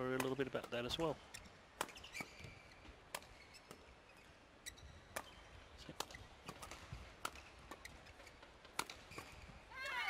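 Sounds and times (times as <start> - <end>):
shoes squeaking on court: 1.2 - 9.6.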